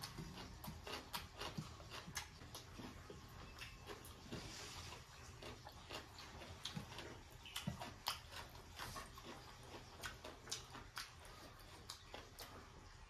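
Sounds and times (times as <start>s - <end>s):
person chewing with wet mouth clicks: 0.0s - 13.0s.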